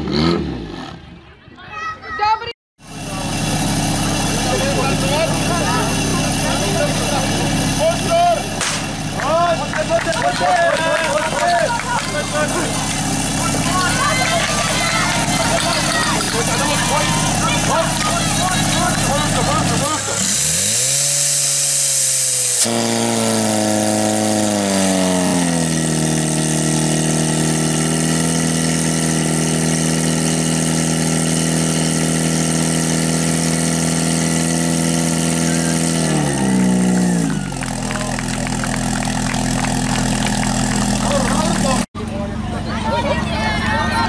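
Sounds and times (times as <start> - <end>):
fire pump engine revving: 2.8 - 44.0.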